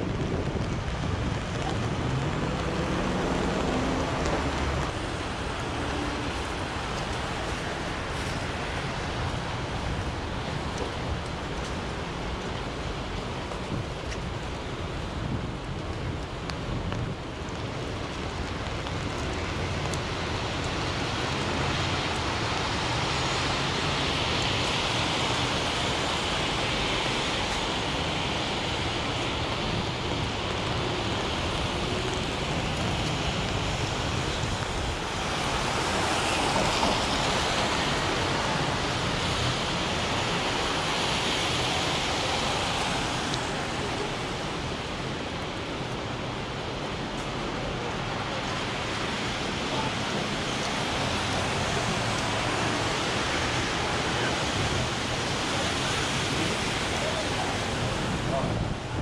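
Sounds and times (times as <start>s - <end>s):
rain pattering on an umbrella: 0.0s - 59.0s
traffic on wet streets: 0.0s - 59.0s.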